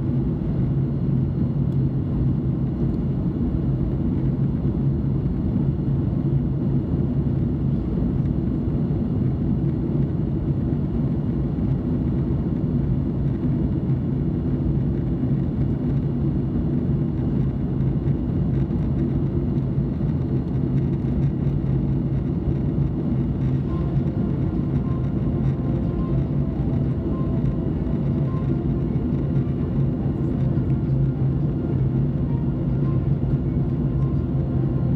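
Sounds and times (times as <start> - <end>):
jet engine and airflow rumble: 0.0 - 34.9.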